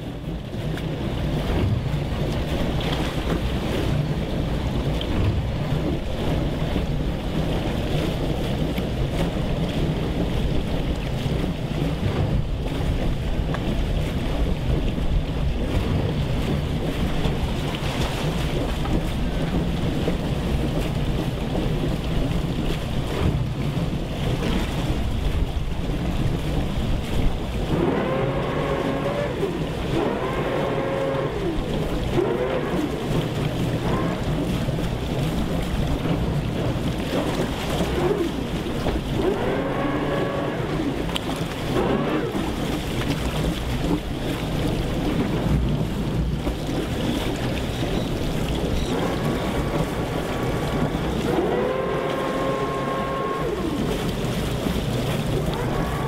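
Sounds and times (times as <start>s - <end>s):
boat engines rumbling: 0.0s - 56.0s
wind on microphone: 0.0s - 56.0s.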